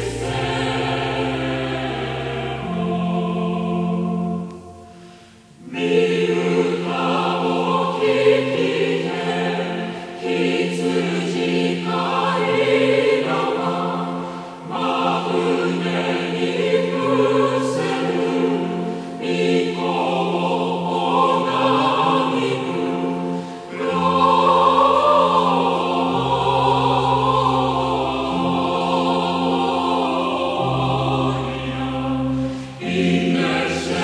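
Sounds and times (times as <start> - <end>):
choir singing a hymn: 0.0 - 34.0.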